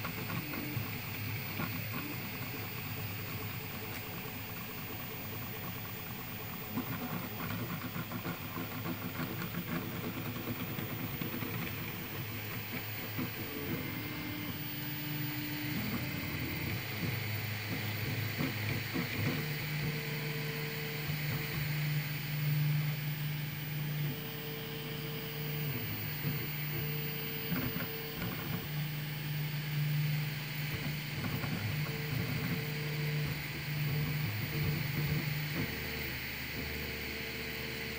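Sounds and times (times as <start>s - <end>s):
stepper motors whining: 0.0s - 37.9s.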